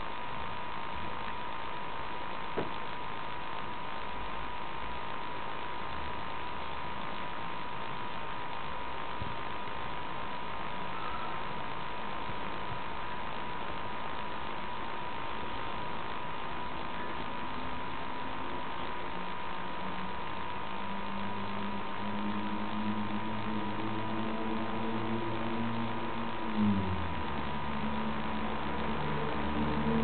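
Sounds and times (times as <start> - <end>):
constant high whine: 0.0 - 30.0
hum and hiss: 0.0 - 30.0
low droning hum: 0.0 - 30.0.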